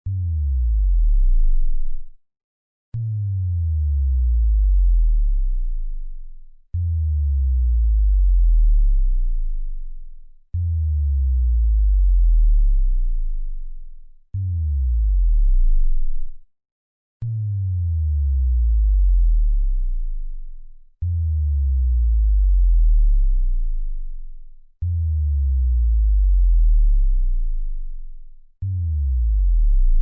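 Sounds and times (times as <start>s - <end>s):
deep booming bass drops: 0.0s - 2.1s, 3.0s - 13.8s, 14.4s - 16.4s, 17.2s - 30.0s.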